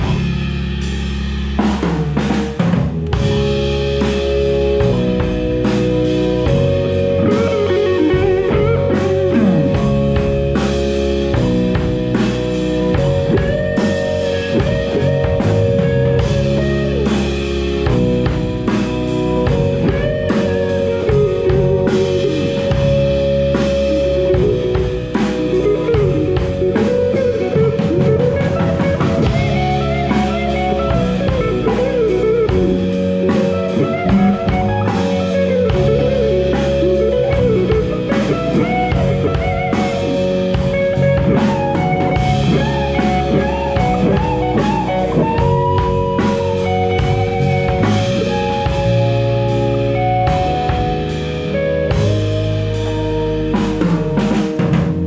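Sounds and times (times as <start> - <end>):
blues-rock band playing: 0.0 - 55.0
lead electric guitar bending notes: 0.0 - 55.0.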